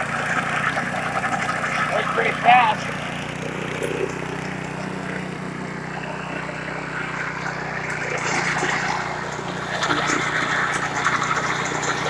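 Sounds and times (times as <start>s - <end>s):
lawn mower engine running: 0.0s - 12.0s
mower cutting grass: 0.0s - 12.0s.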